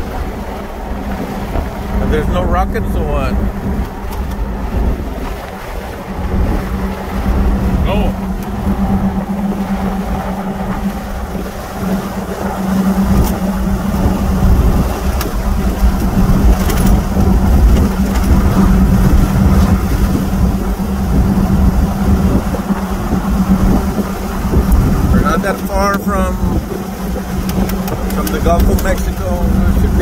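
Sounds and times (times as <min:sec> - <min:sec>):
truck engine and tyre rumble: 0:00.0 - 0:30.0.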